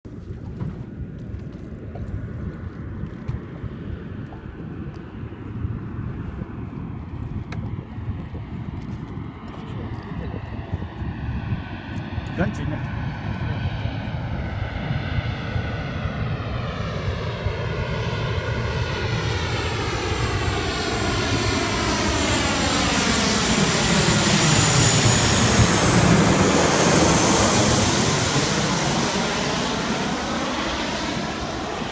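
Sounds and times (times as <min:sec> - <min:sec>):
jet airliner passing: 0:00.1 - 0:31.9.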